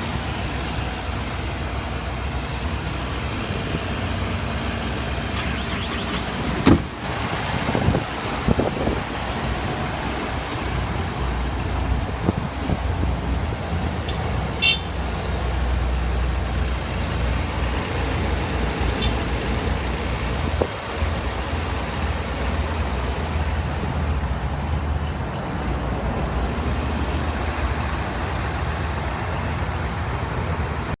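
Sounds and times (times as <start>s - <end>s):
diesel engine low rumble: 0.0s - 31.0s.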